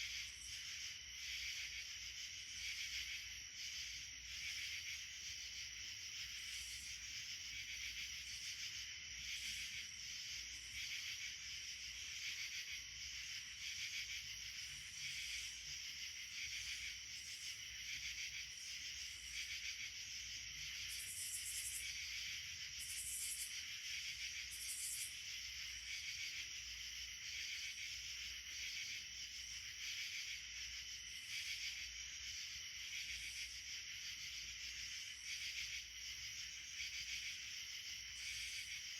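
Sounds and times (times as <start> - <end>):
insects buzzing and trilling: 0.0 - 38.9.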